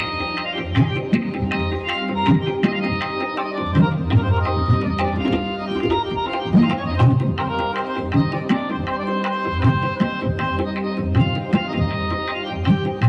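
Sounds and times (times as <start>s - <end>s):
held organ-like notes: 0.0s - 13.0s
tabla drumming: 0.0s - 13.0s.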